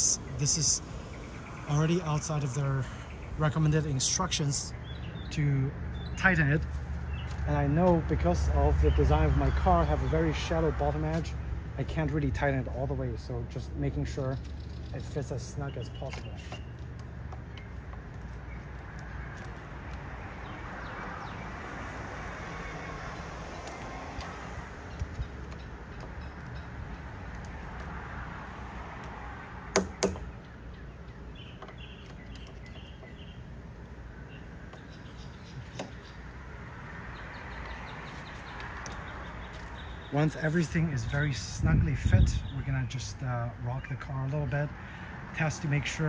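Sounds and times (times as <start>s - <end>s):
outdoor background hum: 0.0s - 46.0s.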